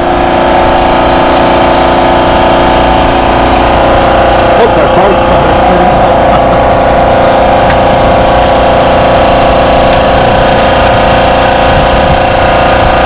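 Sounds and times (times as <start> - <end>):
electric motor and pump humming: 0.0 - 13.0.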